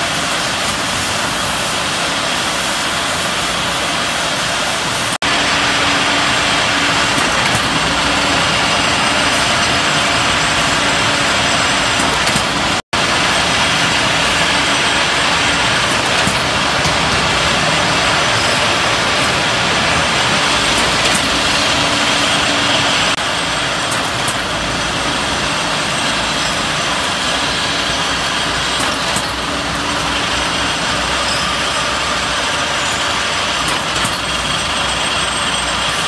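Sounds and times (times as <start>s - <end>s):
machines running with continuous hiss: 0.0s - 36.0s.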